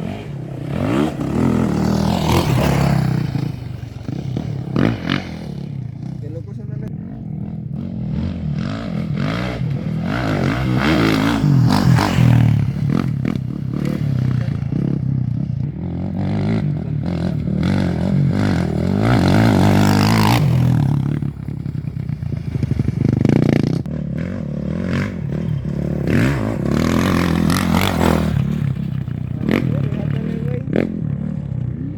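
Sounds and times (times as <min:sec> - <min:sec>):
motorcycles passing at speed: 0:00.0 - 0:31.9.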